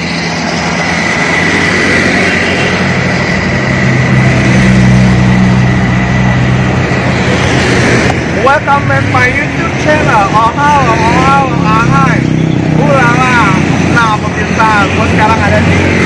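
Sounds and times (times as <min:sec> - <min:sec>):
road traffic passing: 0:00.0 - 0:16.0
vehicle engine hum: 0:00.0 - 0:16.0.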